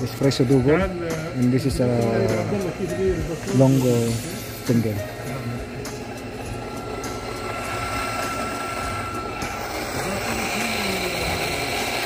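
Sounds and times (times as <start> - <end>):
coffee grinder running: 0.0 - 12.0.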